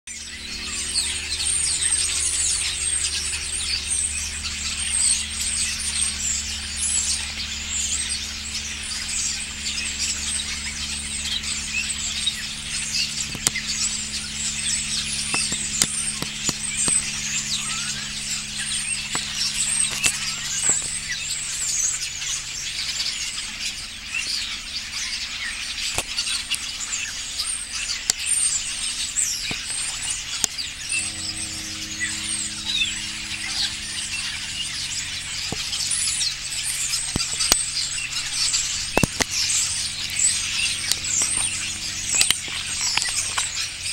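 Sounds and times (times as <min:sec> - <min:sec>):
starlings chattering: 0:00.1 - 0:43.9.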